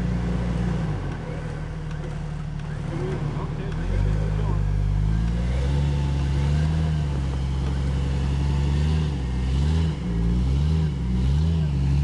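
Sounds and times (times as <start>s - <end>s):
vehicle engine under load: 0.0s - 12.0s.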